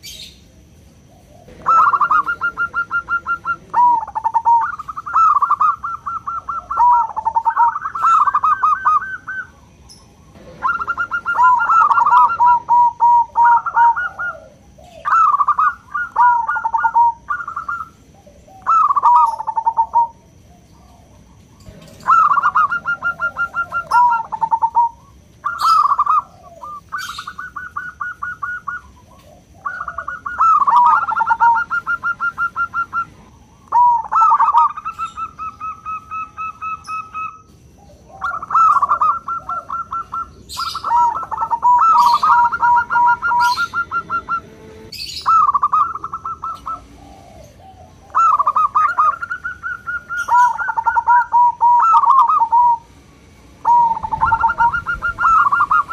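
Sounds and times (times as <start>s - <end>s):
dove cooing: 1.0s - 52.9s, 53.6s - 55.9s.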